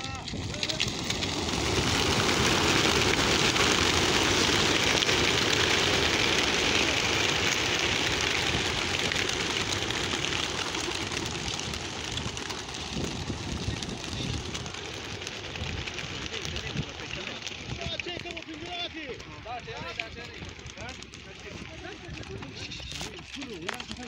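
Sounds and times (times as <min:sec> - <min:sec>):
pigeon flock wingbeats: 0:00.0 - 0:24.0.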